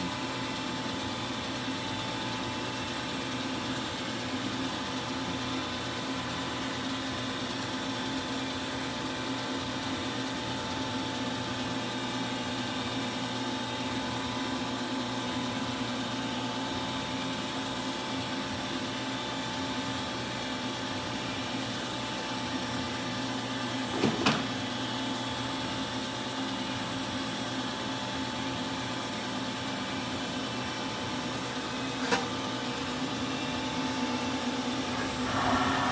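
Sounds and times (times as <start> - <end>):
milling machine hum and whine: 0.0 - 35.9.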